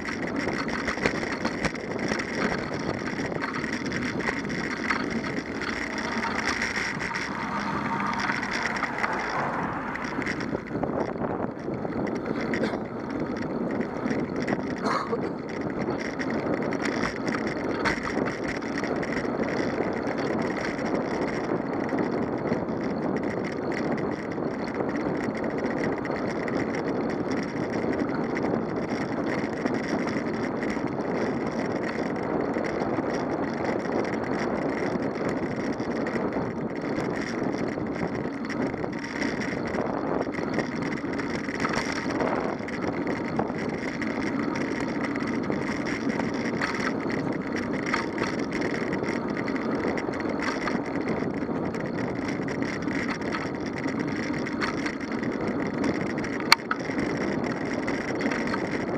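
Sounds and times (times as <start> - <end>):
faint light rattles: 0.0 - 58.9
tyre noise on tarmac: 0.0 - 58.9
wind on microphone: 0.0 - 58.9.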